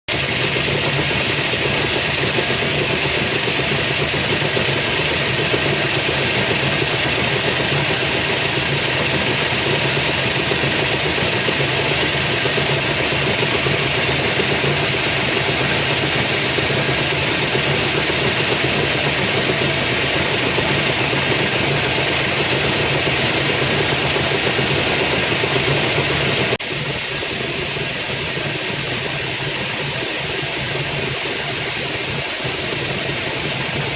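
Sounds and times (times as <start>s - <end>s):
high whine: 0.1s - 33.9s
metal lathe machining: 0.1s - 33.9s.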